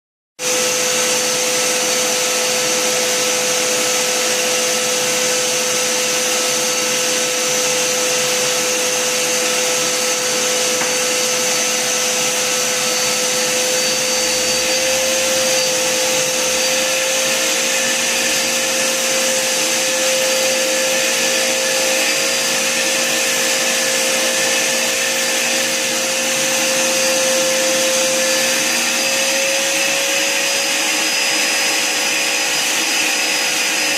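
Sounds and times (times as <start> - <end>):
vacuum cleaner running: 0.4 - 33.9.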